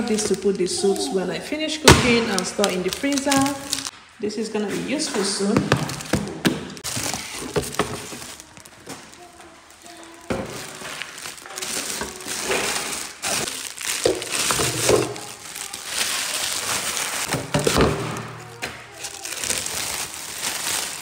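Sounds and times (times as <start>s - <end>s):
plastic wrapping crinkling: 0.0s - 4.0s, 5.2s - 21.0s.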